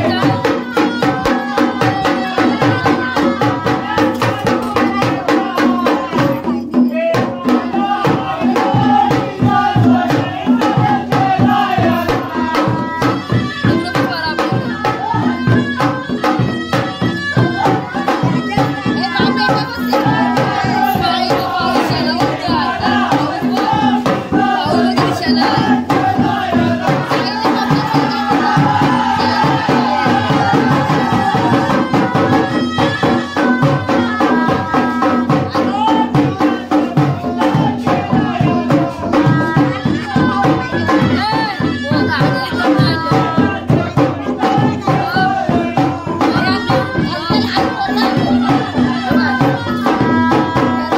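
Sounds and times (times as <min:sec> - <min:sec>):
folk music with singing: 0:00.0 - 0:50.9.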